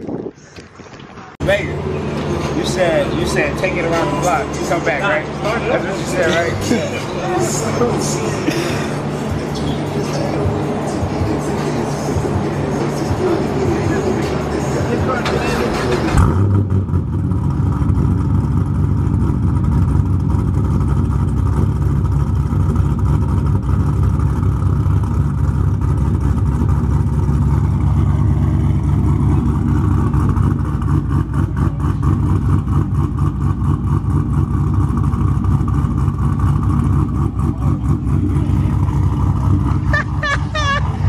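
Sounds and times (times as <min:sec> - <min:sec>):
car engine idling choppily: 0:01.4 - 0:41.0.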